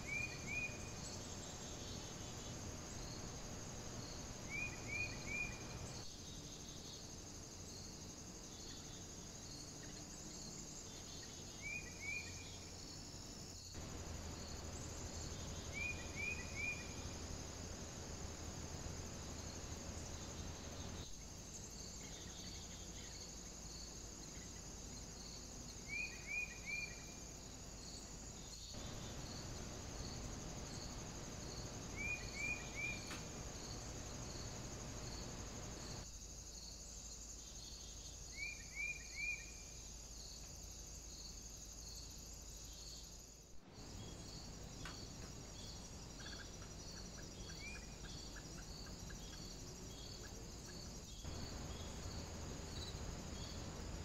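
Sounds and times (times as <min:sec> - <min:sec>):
background hiss: 0:00.0 - 0:54.0
insects chirping: 0:00.0 - 0:54.0.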